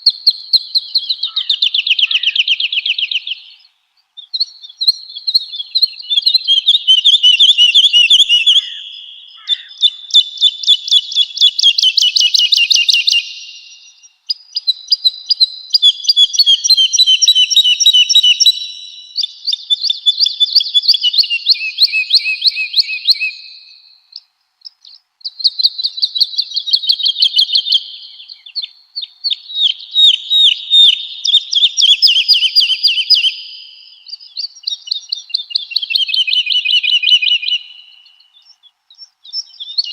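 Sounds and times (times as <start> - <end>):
woodlark singing: 0.0 - 39.9.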